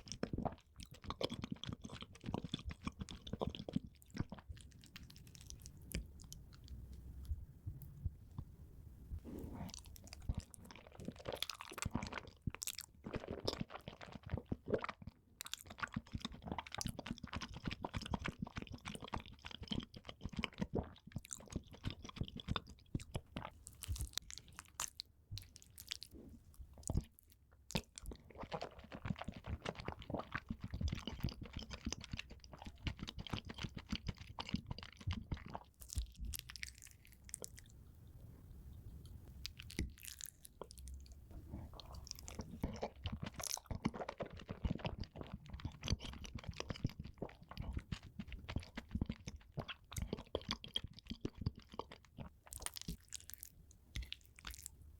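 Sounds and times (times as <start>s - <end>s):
person chewing crunchy food: 0.0s - 7.4s, 9.2s - 37.8s, 39.0s - 54.8s.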